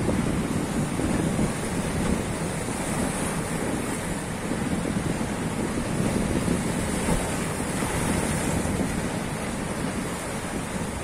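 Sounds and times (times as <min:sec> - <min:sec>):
sea waves breaking over rocks: 0:00.0 - 0:11.0
wind noise on microphone: 0:00.0 - 0:11.0.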